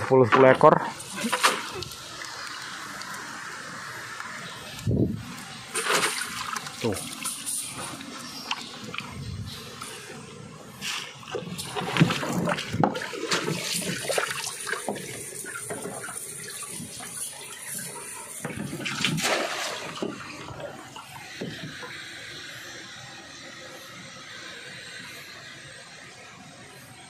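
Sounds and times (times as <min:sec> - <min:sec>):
water splashing and sloshing: 0:00.0 - 0:22.5.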